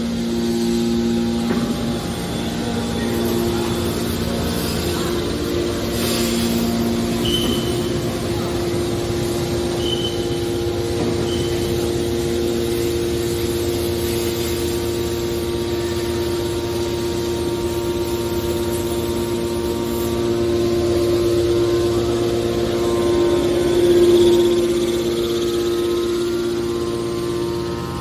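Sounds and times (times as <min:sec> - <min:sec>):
hydraulic baler humming: 0:00.0 - 0:28.0.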